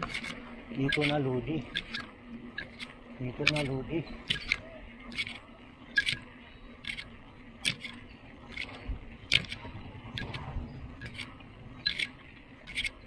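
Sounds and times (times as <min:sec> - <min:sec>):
bicycle rattling and clicking: 0:00.0 - 0:13.0.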